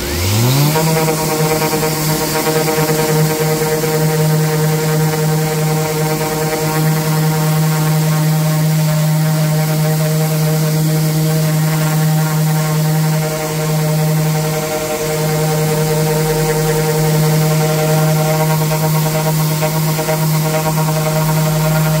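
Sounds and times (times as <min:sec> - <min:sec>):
orbital sander buzzing hum: 0:00.0 - 0:22.0.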